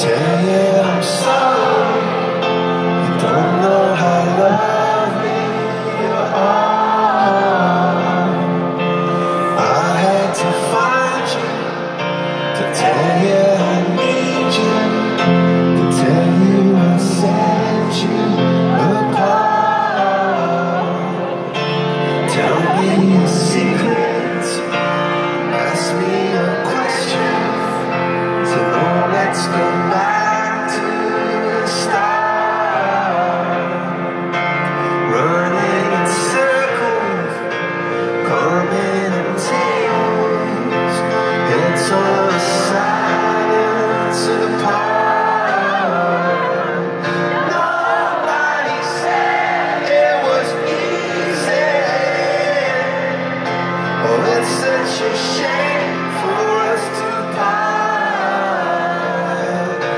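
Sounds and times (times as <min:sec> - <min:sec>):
crowd noise: 0:00.0 - 0:59.9
man singing: 0:00.0 - 0:59.9.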